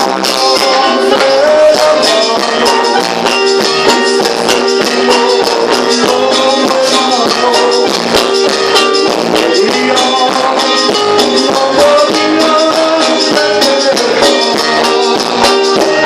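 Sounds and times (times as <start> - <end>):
live dance band music: 0.0 - 16.0.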